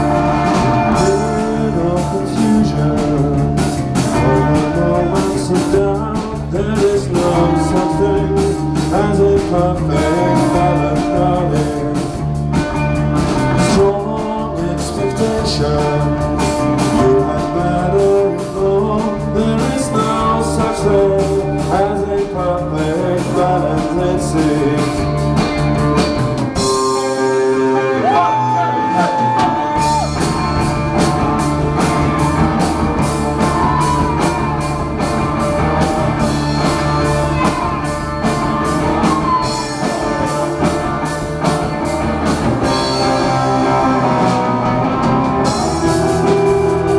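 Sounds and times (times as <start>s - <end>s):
bass guitar: 0.0s - 46.9s
drums: 0.0s - 46.9s
electric guitar: 0.0s - 46.9s.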